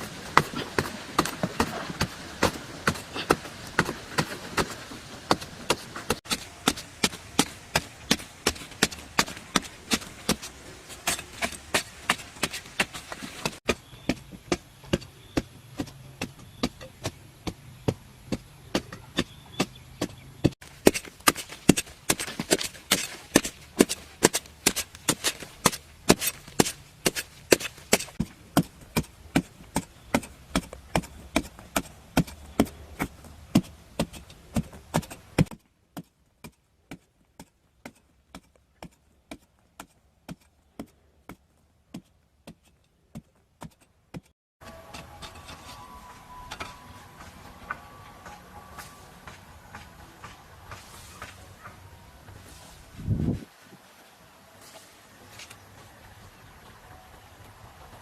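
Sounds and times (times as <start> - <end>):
background noise: 0.0 - 58.0
hand tool chopping: 0.3 - 51.5.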